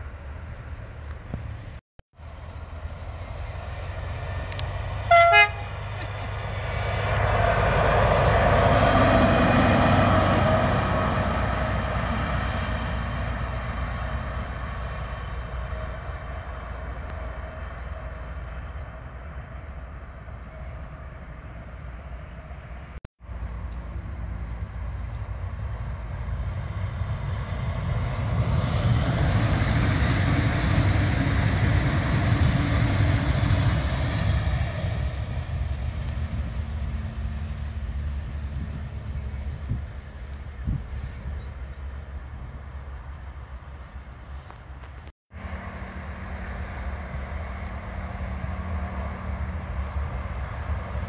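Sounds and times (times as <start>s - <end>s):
diesel locomotive passing: 0.0s - 51.0s.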